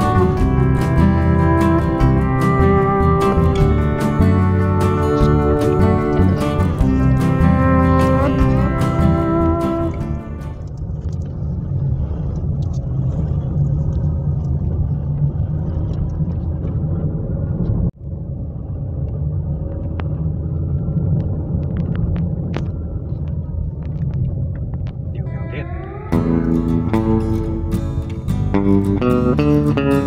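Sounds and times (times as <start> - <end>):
car engine and tyre rumble: 3.6 - 28.8.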